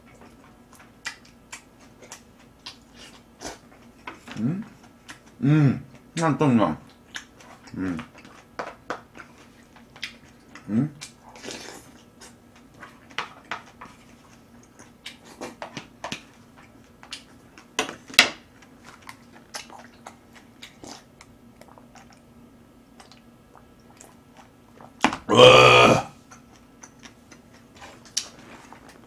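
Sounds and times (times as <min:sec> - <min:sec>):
chewing: 0:00.0 - 0:06.0, 0:06.9 - 0:17.7, 0:18.5 - 0:22.3, 0:22.9 - 0:25.1, 0:26.2 - 0:29.0.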